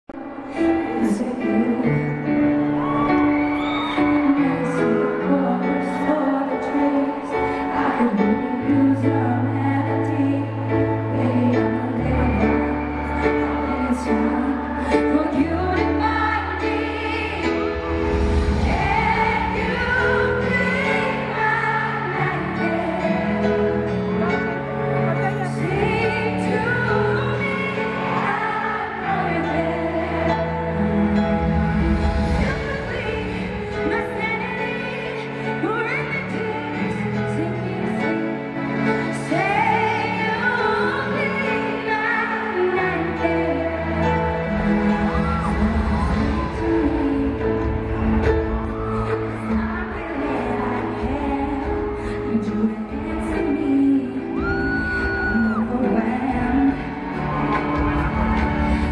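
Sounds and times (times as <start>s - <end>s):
grand piano: 0.1s - 58.9s
woman singing a ballad: 0.2s - 58.9s.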